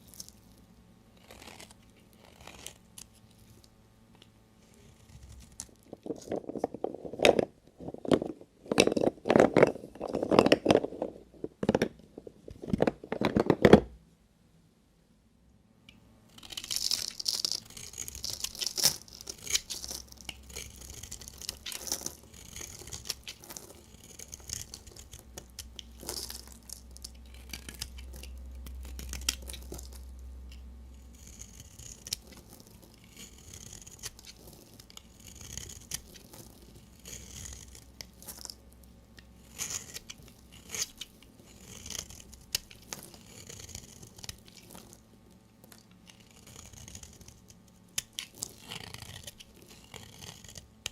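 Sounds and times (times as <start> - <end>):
blade cutting soap: 1.1 - 7.4, 16.3 - 50.9.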